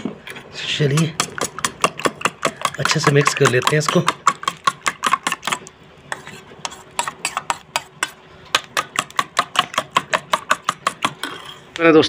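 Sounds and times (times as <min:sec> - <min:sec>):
utensil beating eggs in metal bowl: 0:00.6 - 0:11.3.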